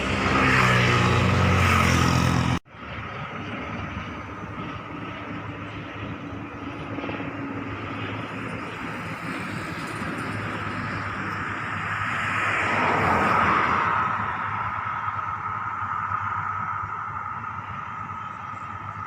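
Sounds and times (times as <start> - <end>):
turboprop aircraft passing: 0.0 - 19.0.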